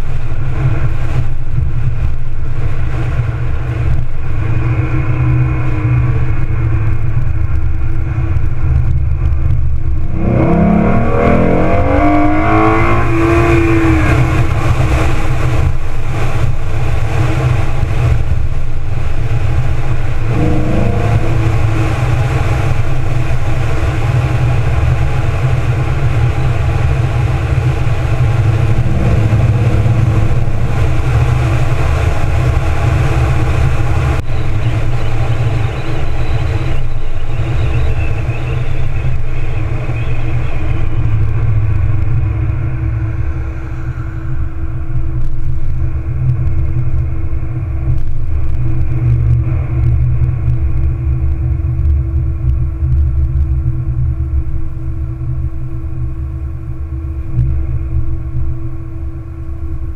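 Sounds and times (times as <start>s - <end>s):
car engine accelerating: 0.0s - 59.9s
road rumble: 0.0s - 59.9s
wind noise: 0.0s - 59.9s.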